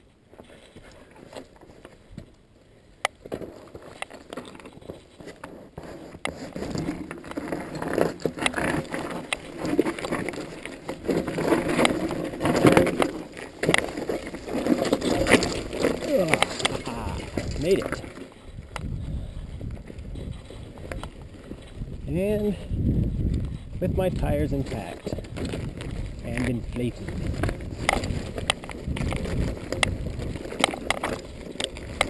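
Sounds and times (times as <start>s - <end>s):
bike clattering and rattling: 3.1s - 32.0s
tires crunching over rock: 3.1s - 32.0s.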